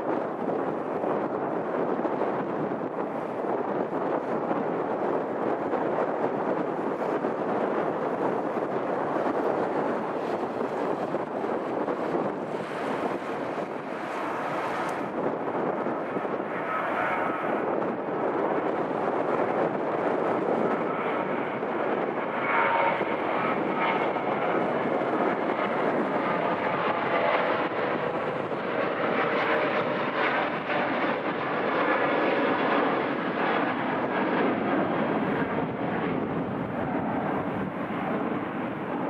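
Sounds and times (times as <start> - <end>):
jet engines running: 0.0 - 39.0.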